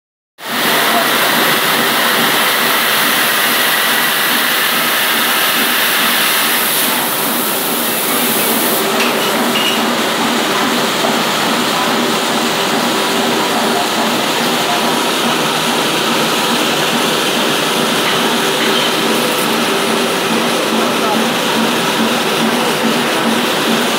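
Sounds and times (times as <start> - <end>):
floor scrubber motor hum: 0.5 - 23.9.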